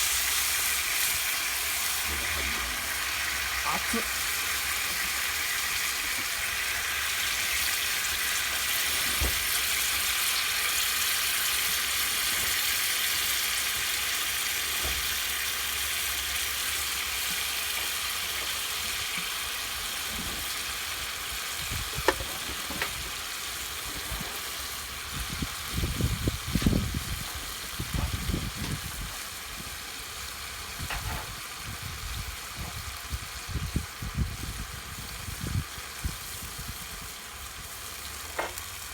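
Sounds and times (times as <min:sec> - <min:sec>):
steak sizzling on a grill: 0:00.0 - 0:38.9.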